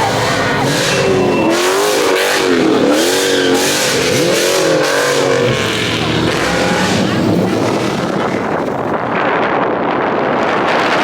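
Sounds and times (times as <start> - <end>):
car engine revving: 0.0 - 9.3
loud steady noise: 0.0 - 11.0.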